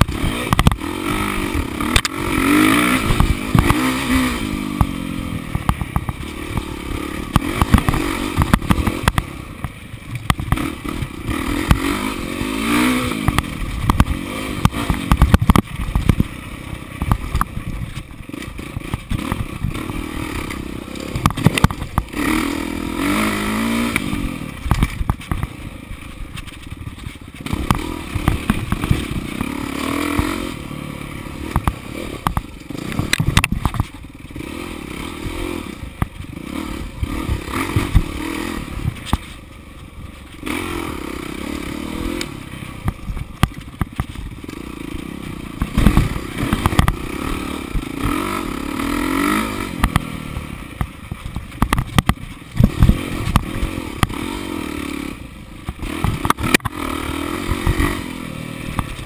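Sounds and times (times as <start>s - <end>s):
bike knocks and rattles: 0.0s - 30.6s, 31.2s - 40.6s, 42.0s - 54.5s, 55.6s - 58.0s
dirt bike engine revving: 0.0s - 59.0s.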